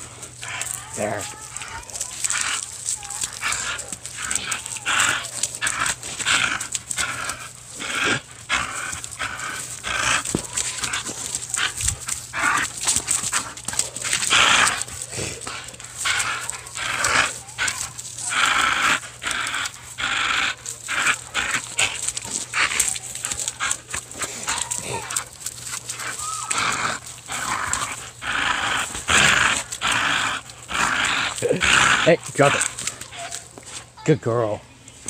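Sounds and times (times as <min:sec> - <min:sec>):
dog breathing hard: 0:00.0 - 0:34.0
dog tugging at rope: 0:00.0 - 0:34.0.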